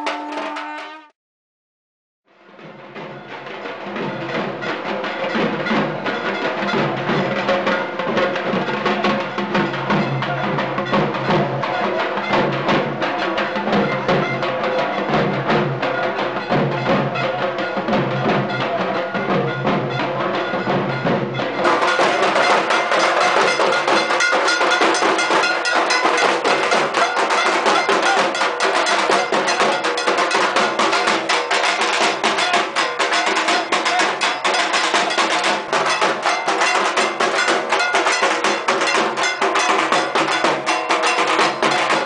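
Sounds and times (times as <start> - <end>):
drums beaten with sticks: 0.0 - 1.1, 2.4 - 42.0.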